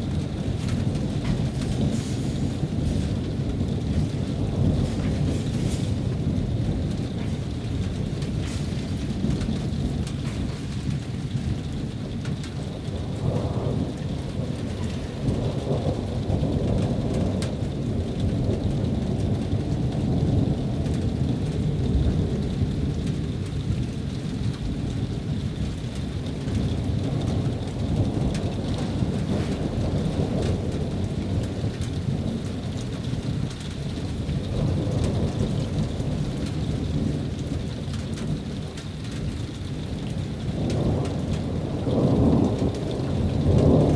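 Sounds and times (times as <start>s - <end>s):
rain falling: 0.0s - 43.9s
thunder rumbling: 0.0s - 43.9s.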